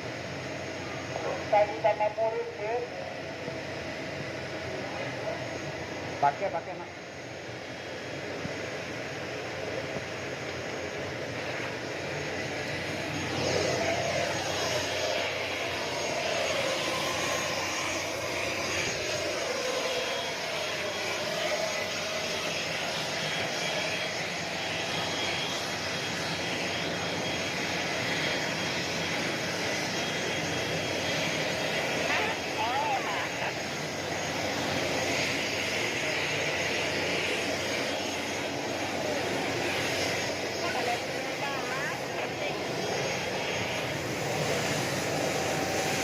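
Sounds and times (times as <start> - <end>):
jet engines whining: 0.0 - 46.0.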